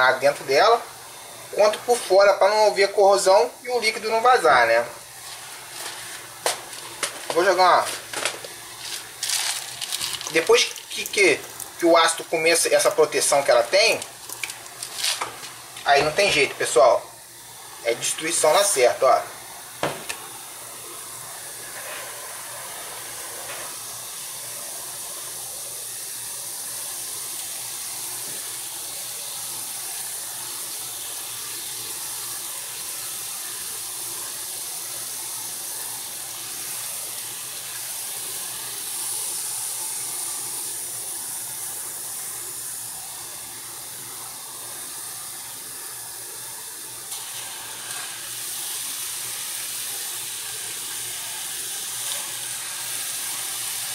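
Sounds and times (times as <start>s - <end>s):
acid fizzing on metal can: 0.0s - 53.9s.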